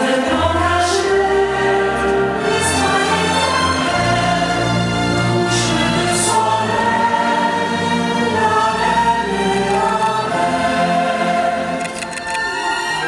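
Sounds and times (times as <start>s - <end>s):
choir singing sustained chords: 0.0s - 13.0s
orchestral backing: 0.0s - 13.0s.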